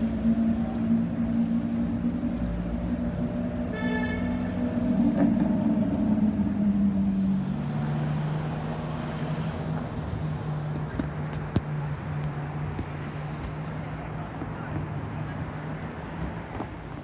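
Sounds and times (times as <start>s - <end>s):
car engine at low revs: 0.0s - 17.0s
city traffic engines: 0.0s - 17.0s.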